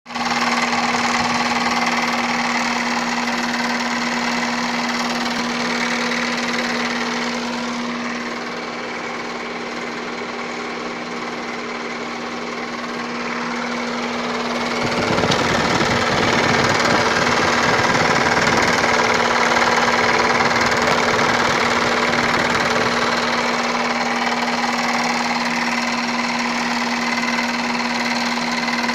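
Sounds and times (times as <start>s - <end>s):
car engine humming: 0.2s - 28.9s.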